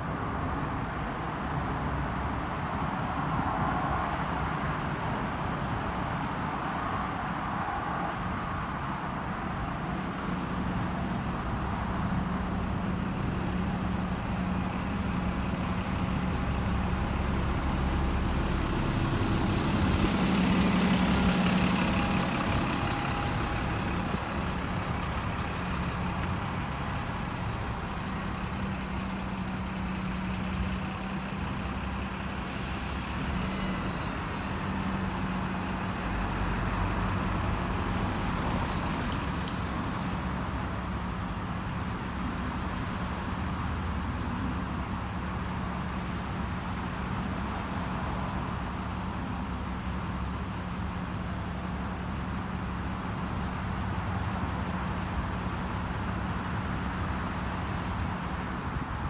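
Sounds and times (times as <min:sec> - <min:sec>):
bus engine droning: 0:00.0 - 0:59.0.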